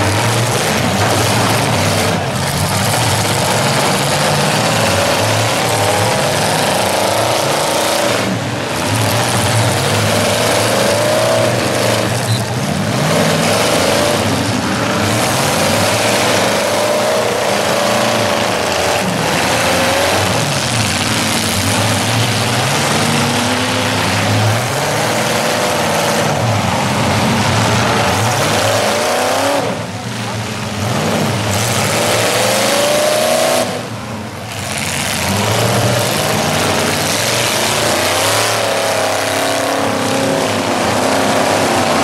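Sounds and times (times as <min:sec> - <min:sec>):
car engines revving hard: 0:00.0 - 0:42.0
cars ramming each other: 0:00.0 - 0:42.0.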